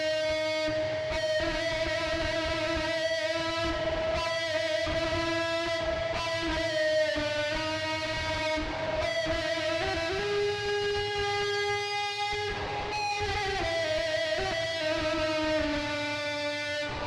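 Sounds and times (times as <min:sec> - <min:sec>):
strummed guitar: 0:00.0 - 0:17.0.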